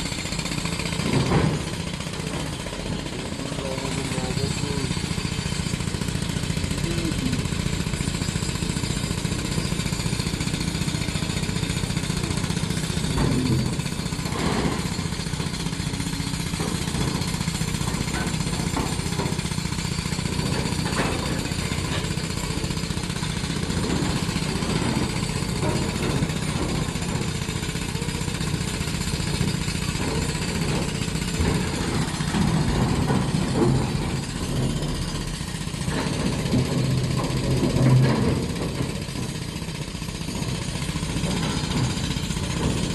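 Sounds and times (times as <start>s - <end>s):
diesel engine clattering: 0.0s - 42.9s.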